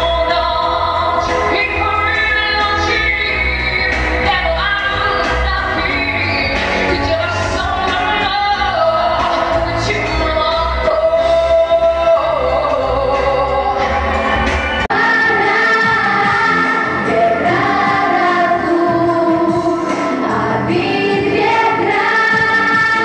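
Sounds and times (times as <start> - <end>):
woman singing into microphone: 0.0 - 13.9, 14.9 - 23.0
instrumental music with pulsing bass: 0.0 - 23.0.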